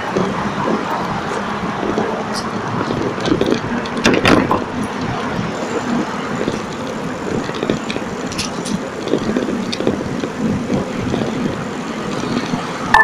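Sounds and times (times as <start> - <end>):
bicycle rattling over paving: 0.0 - 13.0
street traffic: 0.0 - 13.0
loud clatter: 0.1 - 13.0.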